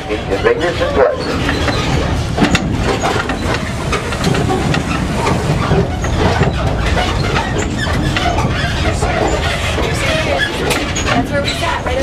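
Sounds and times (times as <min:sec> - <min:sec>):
engine and road rumble: 0:00.0 - 0:12.0
train cars rattling: 0:00.0 - 0:12.0.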